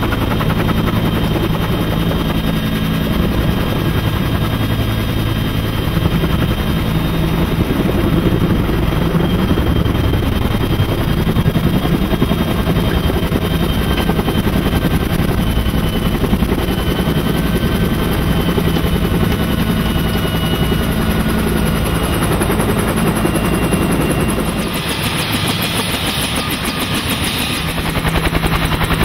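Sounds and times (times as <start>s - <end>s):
helicopter rotor pulsing: 0.0s - 29.0s
turbine engine whine: 0.0s - 29.0s.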